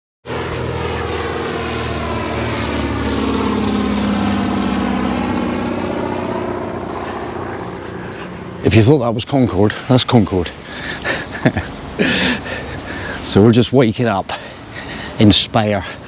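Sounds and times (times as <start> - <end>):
propeller aircraft engine drone: 0.2 - 16.0.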